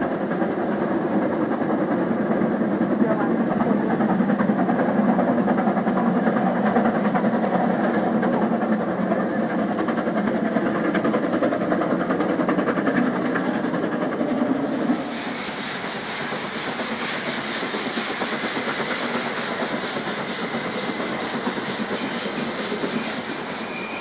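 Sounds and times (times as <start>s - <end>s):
steam locomotive exhaust beat: 0.0s - 24.0s.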